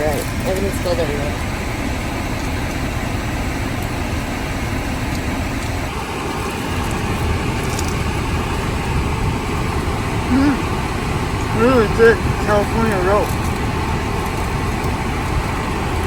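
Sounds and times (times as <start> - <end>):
car interior rumble and hiss: 0.0 - 16.0.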